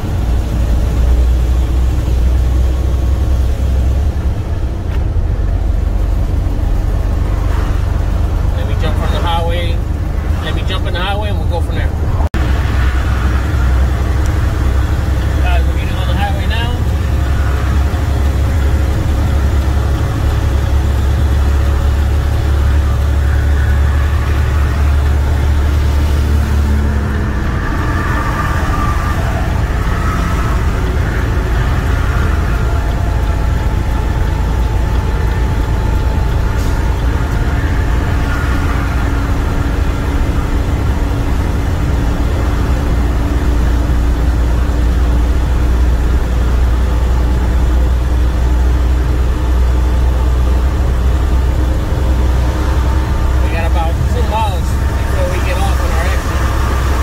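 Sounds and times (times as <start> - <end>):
truck diesel engine drone: 0.0 - 57.0
tyre road noise: 0.0 - 57.0.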